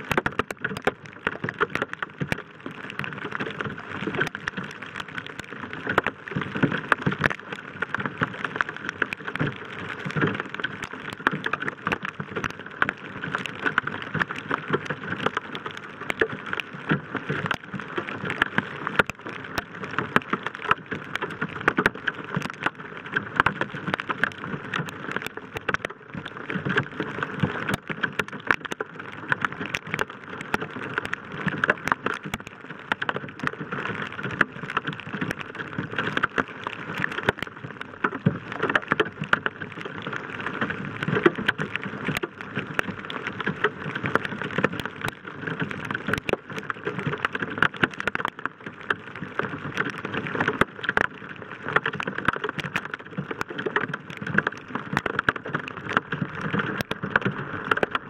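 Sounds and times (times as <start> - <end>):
heavy rain on vehicle roof: 0.0 - 58.0.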